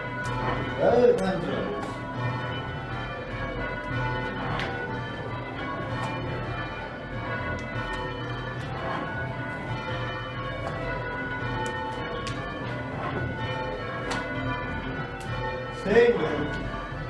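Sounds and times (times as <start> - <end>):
church bells change ringing: 0.0 - 17.0.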